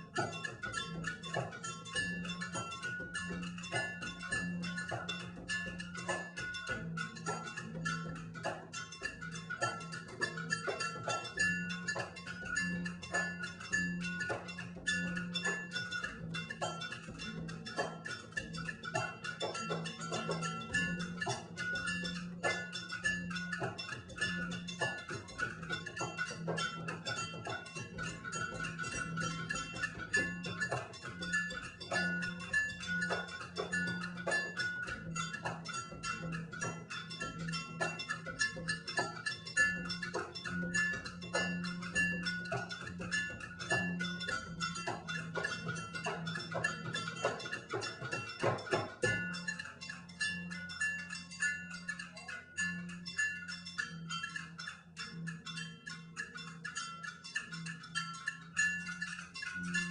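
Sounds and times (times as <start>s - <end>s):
fast drums and percussion: 0.0s - 59.9s.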